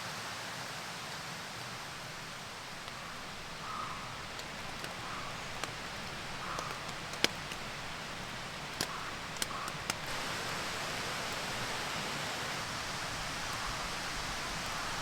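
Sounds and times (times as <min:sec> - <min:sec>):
rain hiss: 0:00.0 - 0:15.0.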